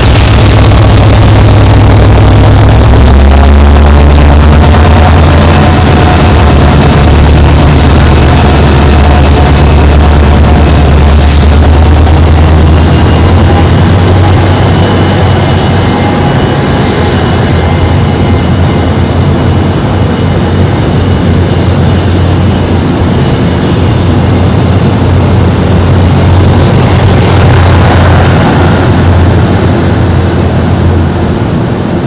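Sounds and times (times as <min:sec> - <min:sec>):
faint high whine: 0:00.0 - 0:32.0
low hum: 0:00.0 - 0:32.0
passenger train rumbling past: 0:00.0 - 0:32.0.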